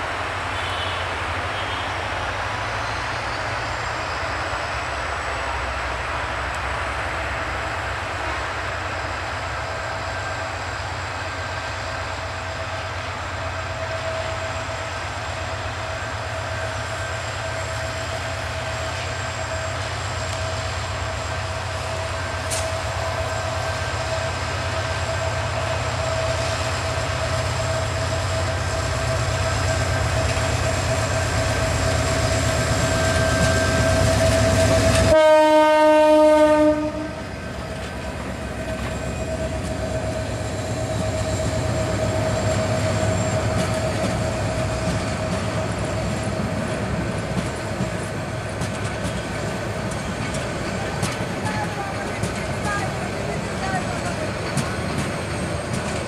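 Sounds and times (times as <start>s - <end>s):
constant locomotive whine: 0.0s - 56.0s
diesel locomotive rumbling: 0.0s - 56.0s.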